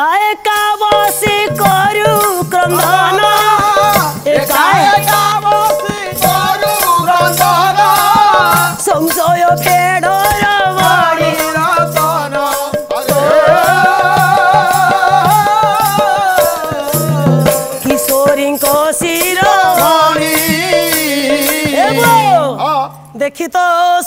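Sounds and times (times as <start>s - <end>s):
woman singing: 0.0s - 12.3s, 13.1s - 24.0s
jingling percussion: 0.0s - 23.5s.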